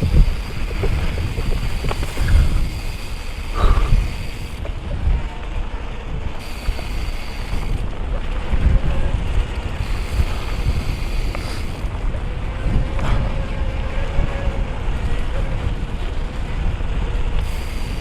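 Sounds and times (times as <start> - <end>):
tyres rumbling on dirt trail: 0.0 - 18.0
wind buffeting microphone: 0.0 - 18.0.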